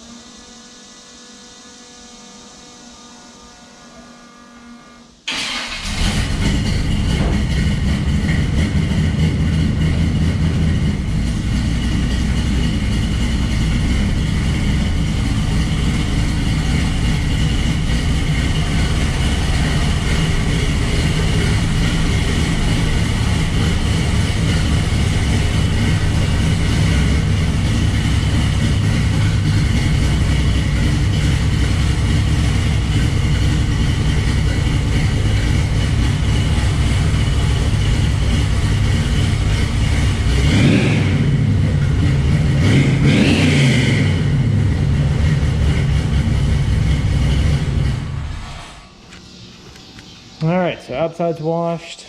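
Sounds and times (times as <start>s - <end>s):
loud engine running: 5.2s - 51.8s.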